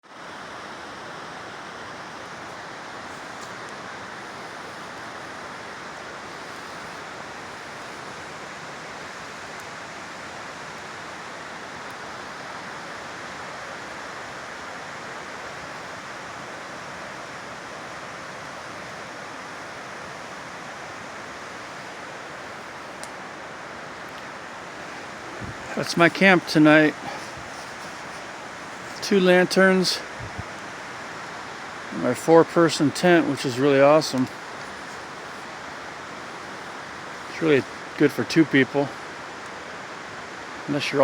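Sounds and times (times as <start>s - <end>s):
creek water rushing: 0.0s - 41.0s.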